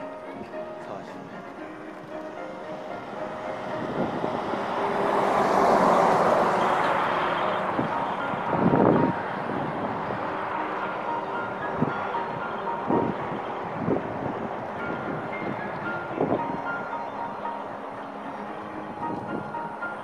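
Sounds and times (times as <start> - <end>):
road traffic: 0.0 - 20.0
vehicle passing: 0.0 - 20.0.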